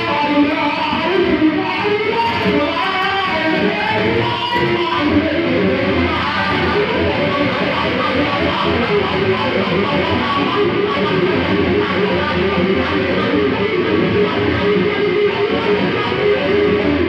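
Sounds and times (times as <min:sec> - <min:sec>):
electric guitar lead line: 0:00.0 - 0:17.0.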